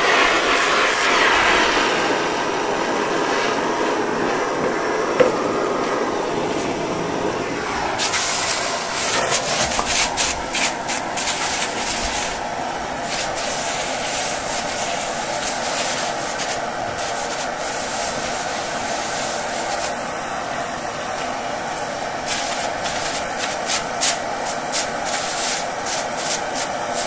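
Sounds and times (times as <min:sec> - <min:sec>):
gas torch roaring: 0:00.0 - 0:27.0
wet rag sizzling on hot steel: 0:02.6 - 0:20.4, 0:21.0 - 0:27.0.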